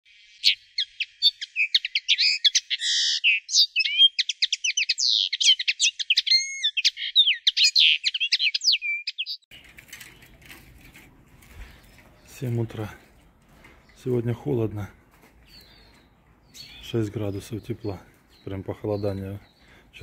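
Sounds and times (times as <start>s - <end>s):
songbird singing: 0.1s - 20.0s.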